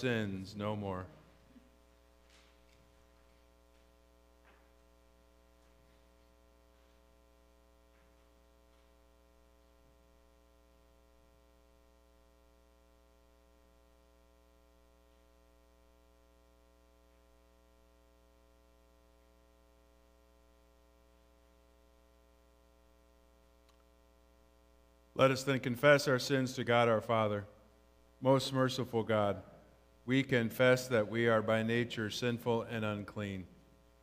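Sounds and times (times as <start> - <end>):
faint electrical hum: 0.0 - 34.0.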